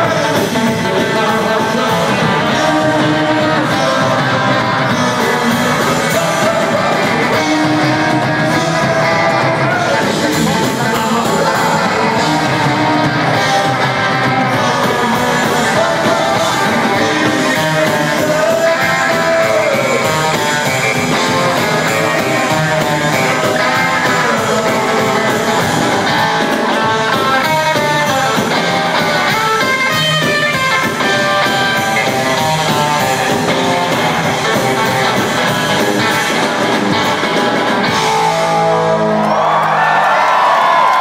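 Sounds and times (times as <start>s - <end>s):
drums: 0.0s - 41.0s
electric guitar: 0.0s - 41.0s
rockabilly band playing: 0.0s - 41.0s.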